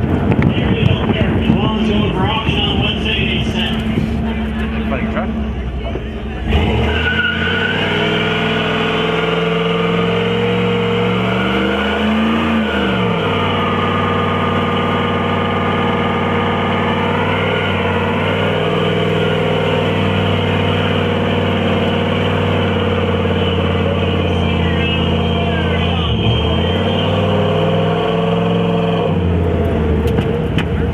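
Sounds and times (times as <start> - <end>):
pickup engine revving high: 0.0 - 30.9.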